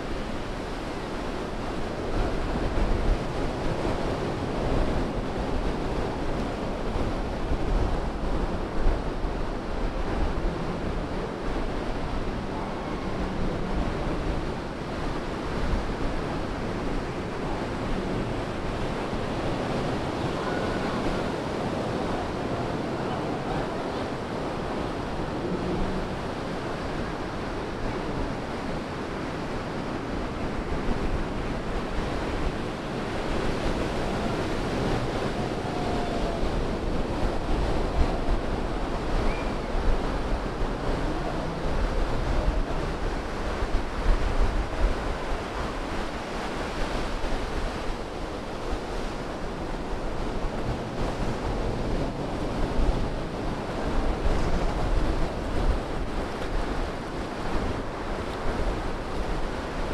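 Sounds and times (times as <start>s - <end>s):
ocean surf breaking on sand: 0.0s - 59.9s
wind rumble on microphone: 0.0s - 59.9s.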